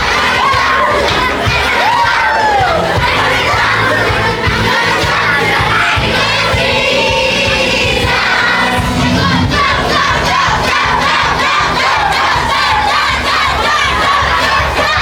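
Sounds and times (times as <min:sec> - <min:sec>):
children singing and shouting: 0:00.0 - 0:15.0
worship music with steady beat: 0:00.0 - 0:15.0.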